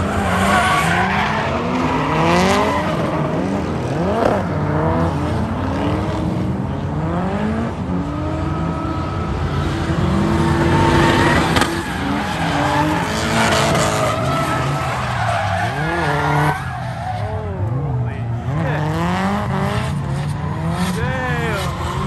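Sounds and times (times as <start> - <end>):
car engines revving: 0.0 - 22.0
tires screeching on asphalt: 0.0 - 22.0.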